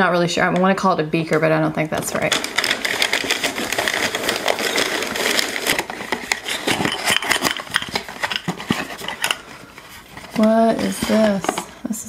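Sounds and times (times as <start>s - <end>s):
packing paper crinkling: 1.8s - 11.9s.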